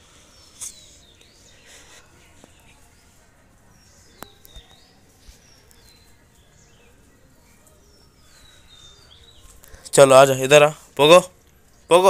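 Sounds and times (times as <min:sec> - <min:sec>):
thin bird chirps: 0:00.1 - 0:03.1, 0:03.8 - 0:10.4.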